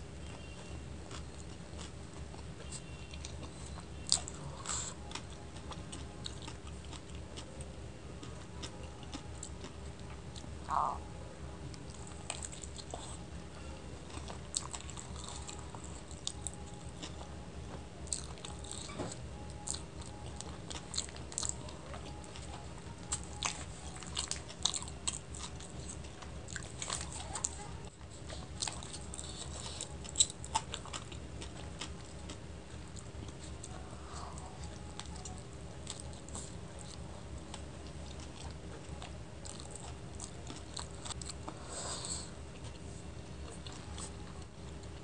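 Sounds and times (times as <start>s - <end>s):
biting and chewing food: 0.0s - 45.0s
faint steady hum: 0.0s - 45.0s.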